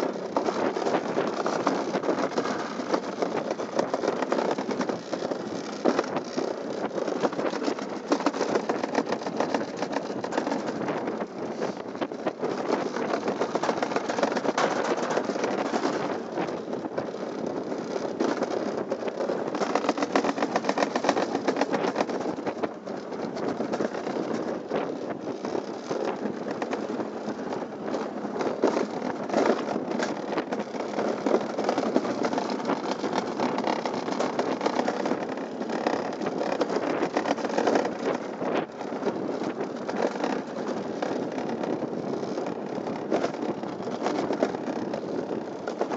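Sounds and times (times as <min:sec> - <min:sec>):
sled rolling rumble on metal track: 0:00.0 - 0:45.9.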